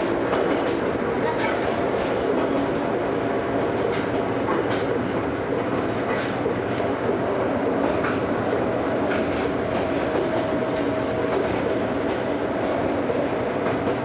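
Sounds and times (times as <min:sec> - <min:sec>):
wheels clicking over rail joints: 0:00.0 - 0:12.3
train wheels rumbling on rail: 0:00.0 - 0:14.0.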